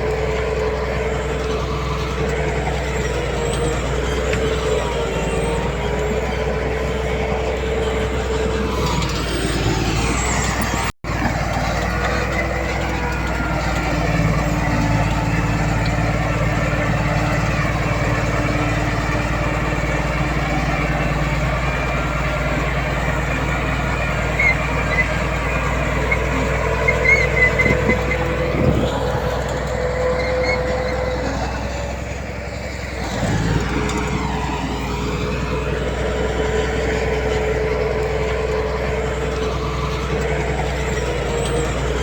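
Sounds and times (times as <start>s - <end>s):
diesel earthmoving machinery running: 0.0s - 42.0s.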